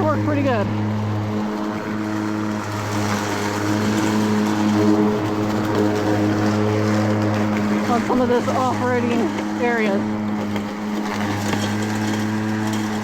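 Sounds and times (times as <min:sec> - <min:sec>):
remote-control lawnmower motor hum: 0:00.0 - 0:13.0.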